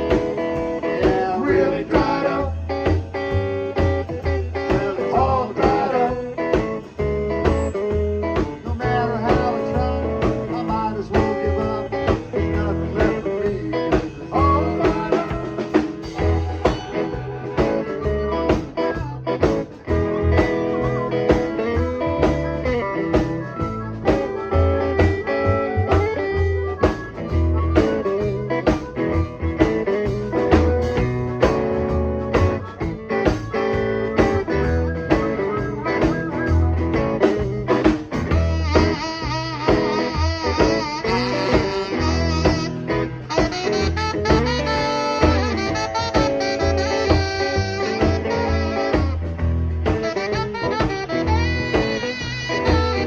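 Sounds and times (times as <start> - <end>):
blues band instrumental: 0.0 - 53.0
lead guitar: 0.0 - 53.0.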